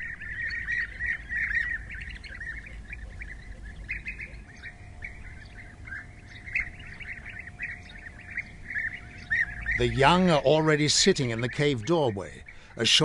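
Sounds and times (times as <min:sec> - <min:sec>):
birds calling in chorus: 0:00.0 - 0:13.0.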